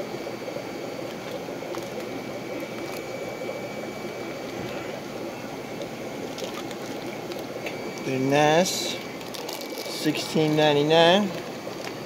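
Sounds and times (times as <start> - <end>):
aquarium water bubbling: 0.0 - 12.0.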